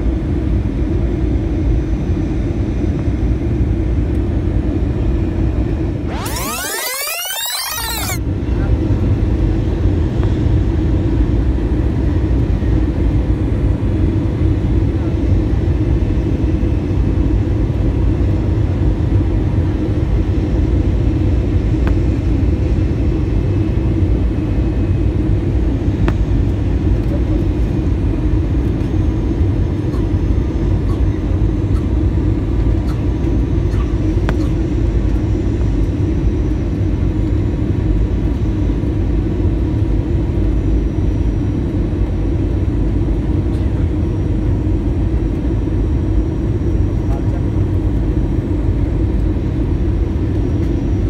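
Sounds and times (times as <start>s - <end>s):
jet airliner cabin noise: 0.0s - 51.0s.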